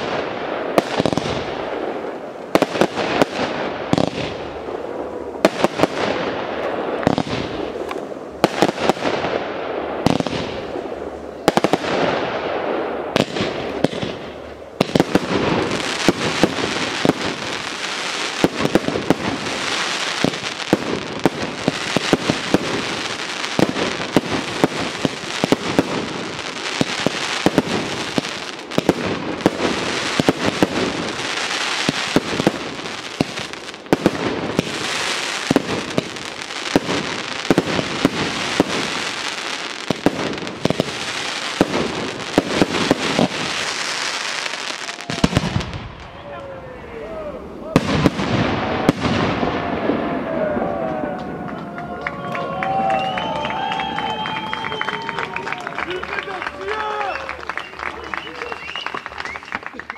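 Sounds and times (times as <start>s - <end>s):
firework crackling barrage: 0.0s - 59.9s.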